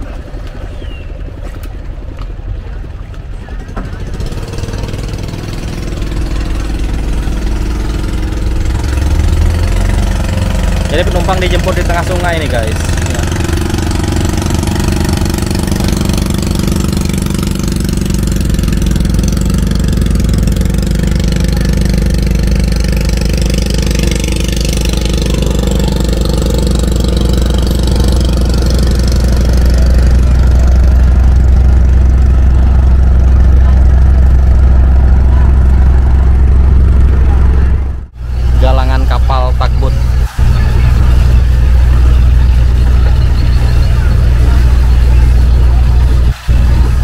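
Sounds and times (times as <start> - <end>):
boat engine humming: 0.0 - 47.0.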